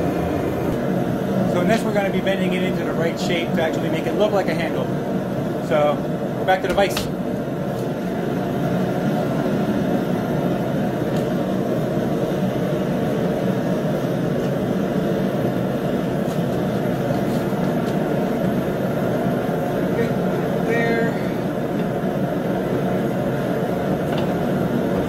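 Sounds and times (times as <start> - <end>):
gas forge burner roaring: 0.0 - 25.0.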